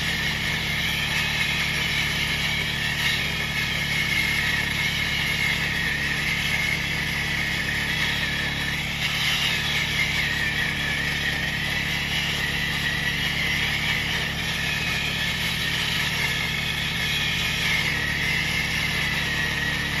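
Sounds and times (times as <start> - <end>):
grinder grinding metal: 0.0 - 20.0.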